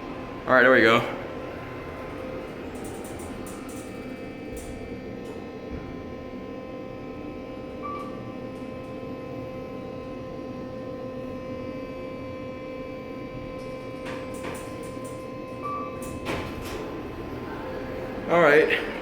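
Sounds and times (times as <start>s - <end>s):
elevator hum and whine: 0.0s - 19.0s.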